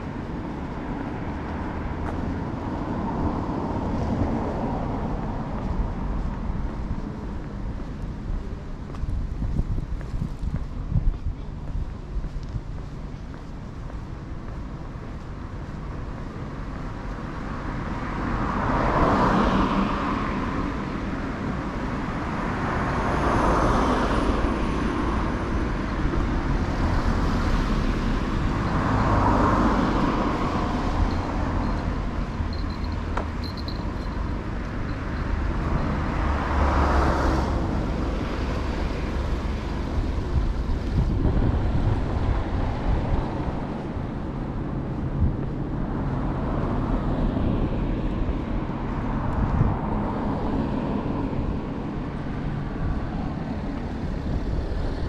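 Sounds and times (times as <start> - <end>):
cars passing: 0.0 - 55.0
low traffic rumble: 0.0 - 55.0.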